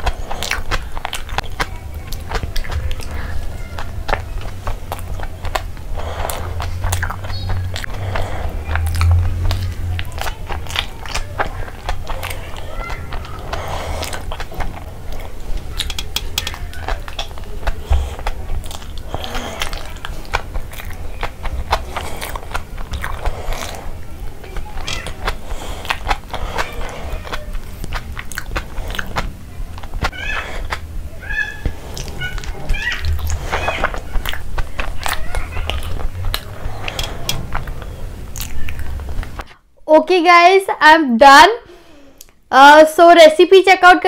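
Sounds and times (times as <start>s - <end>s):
finger licking: 0.0s - 39.6s
lip smacks and clicks: 0.0s - 39.6s
wet chewing: 0.0s - 39.6s.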